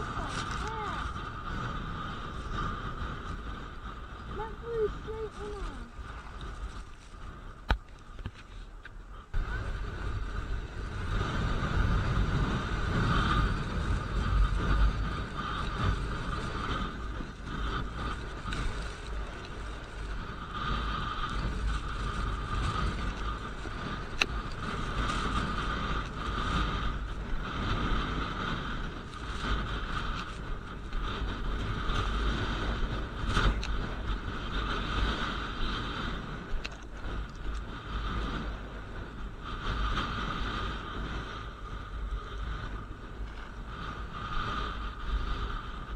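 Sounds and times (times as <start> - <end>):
snowboard sliding on snow: 0.0 - 8.8, 9.4 - 45.9
wind buffeting microphone: 0.0 - 45.9.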